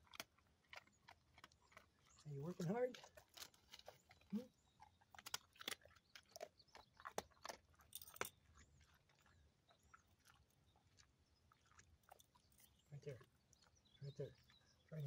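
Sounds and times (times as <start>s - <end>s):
dog crunching a dry treat: 0.0s - 13.8s.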